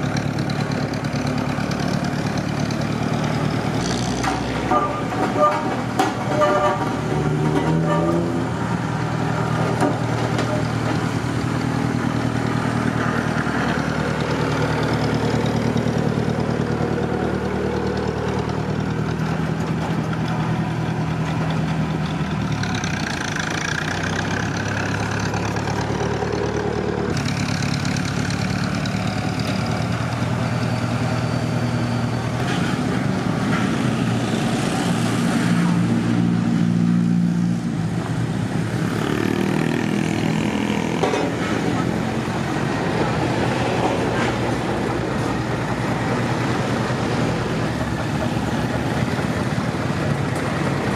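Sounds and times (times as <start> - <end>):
road roller engine running: 0.0 - 50.9.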